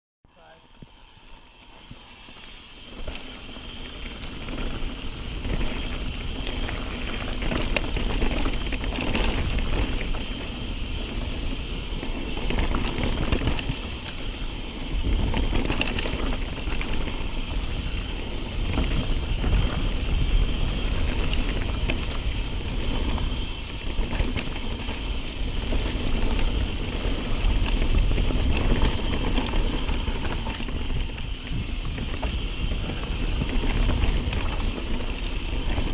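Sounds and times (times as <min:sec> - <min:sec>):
wind rumble on microphone: 0:00.4 - 0:35.9
bike tyres rolling over dirt: 0:00.7 - 0:35.9
bike rattling and knocking: 0:01.8 - 0:35.9.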